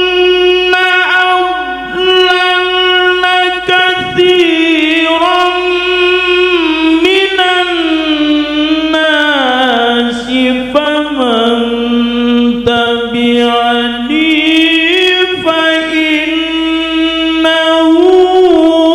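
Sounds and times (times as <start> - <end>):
man chanting into a microphone: 0.0 - 18.9.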